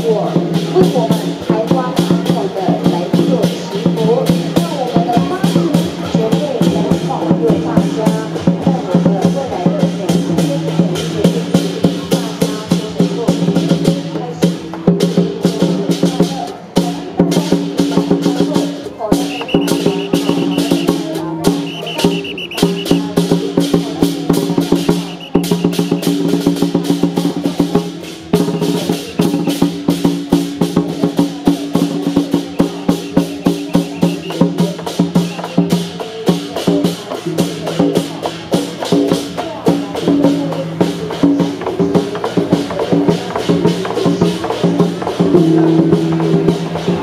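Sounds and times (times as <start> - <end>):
large barrel drum: 0.0 - 47.0.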